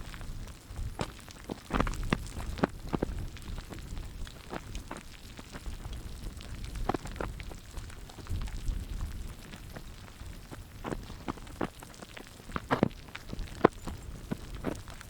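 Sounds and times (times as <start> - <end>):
wind buffeting microphone: 0.0 - 11.8, 12.4 - 15.0.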